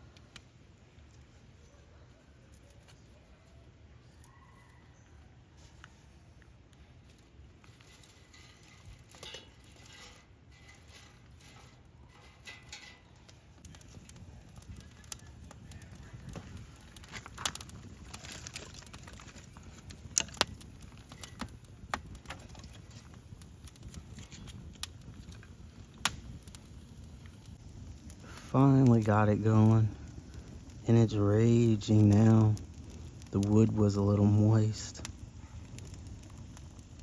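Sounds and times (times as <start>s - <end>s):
fire crackling and popping: 0.0s - 5.1s, 5.8s - 37.0s
campfire hissing: 7.1s - 37.0s.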